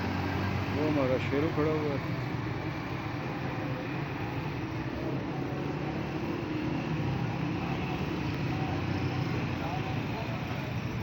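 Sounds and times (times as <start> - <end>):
traffic engine rumble: 0.0 - 11.0
traffic hiss: 0.0 - 11.0.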